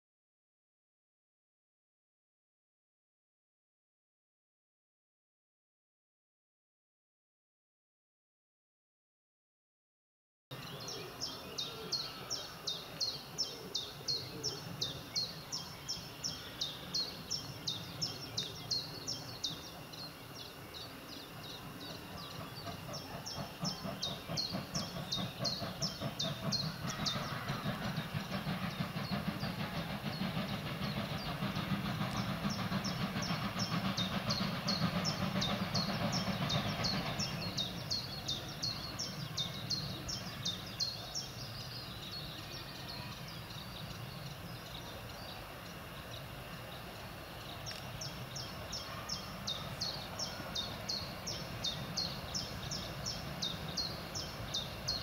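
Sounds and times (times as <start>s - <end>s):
bird chirping: 10.5s - 55.0s
steam locomotive rumble: 10.6s - 55.0s.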